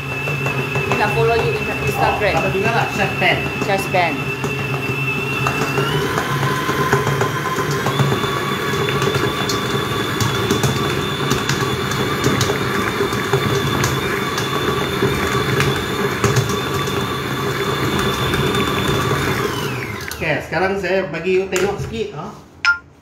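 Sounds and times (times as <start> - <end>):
stand mixer motor whine: 0.0 - 20.5.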